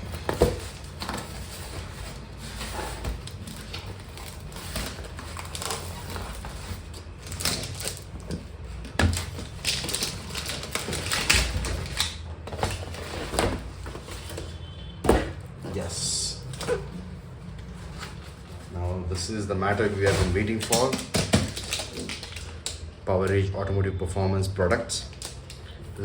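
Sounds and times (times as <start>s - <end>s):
cardboard packaging crinkling: 0.0s - 22.9s.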